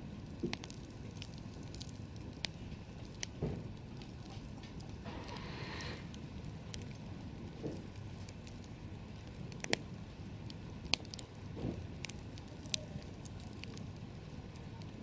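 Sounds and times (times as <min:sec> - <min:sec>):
campfire burning: 0:00.0 - 0:15.0
sharp pops and crackles: 0:00.2 - 0:15.0.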